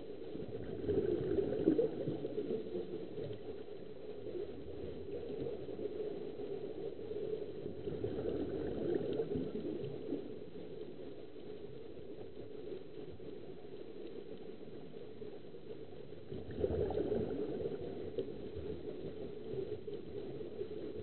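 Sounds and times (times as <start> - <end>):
muffled underwater bubbling: 0.0 - 21.0.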